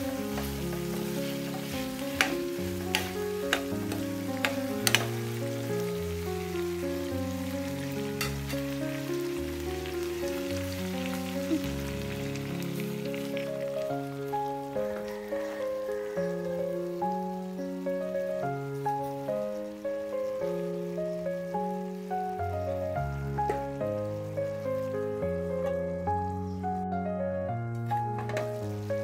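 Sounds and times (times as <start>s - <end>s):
food sizzling in frying pan: 0.0s - 26.5s, 27.8s - 29.0s
slow background music: 0.0s - 29.0s.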